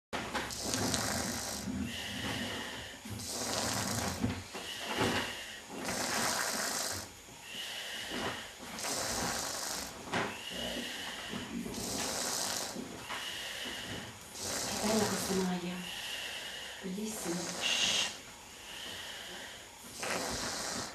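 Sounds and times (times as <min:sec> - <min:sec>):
person snoring: 0:00.5 - 0:20.9.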